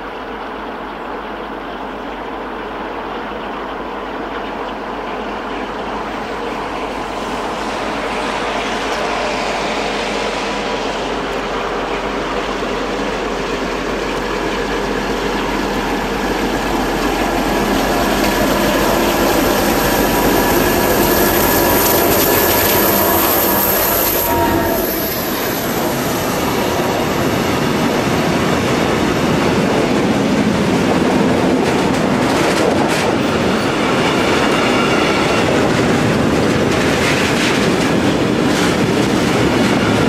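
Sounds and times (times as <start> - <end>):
diesel locomotive engine drone: 0.0 - 40.0
high whine of train wheels: 0.0 - 40.0.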